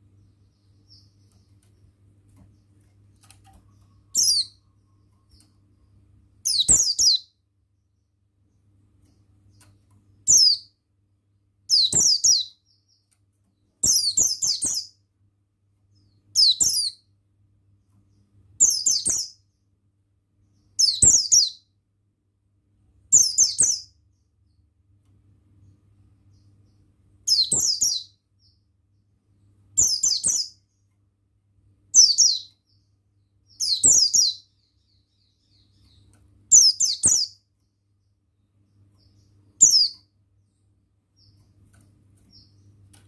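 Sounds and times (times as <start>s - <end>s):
bird twittering song: 0.0s - 10.8s, 11.6s - 15.1s, 15.8s - 19.8s, 20.4s - 21.8s, 23.1s - 31.1s, 31.8s - 43.0s.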